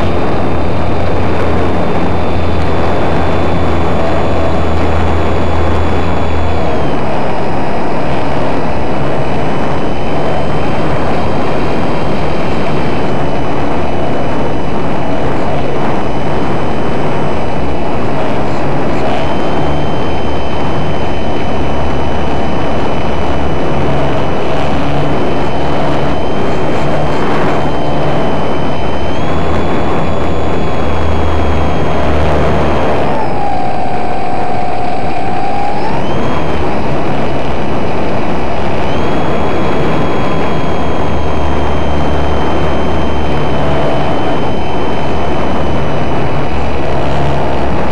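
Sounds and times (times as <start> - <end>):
model airplane motor whining: 0.0 - 47.9
wind rush: 0.0 - 47.9.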